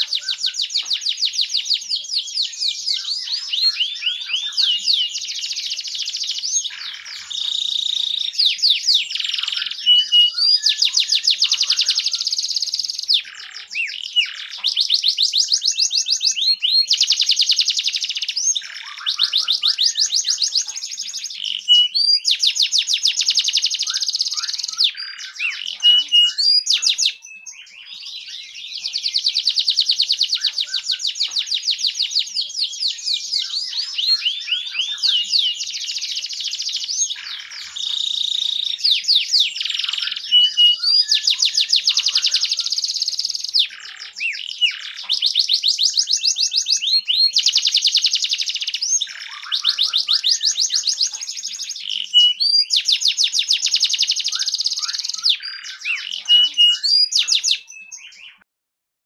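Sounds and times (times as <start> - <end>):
canary singing trills: 0.0 - 58.4.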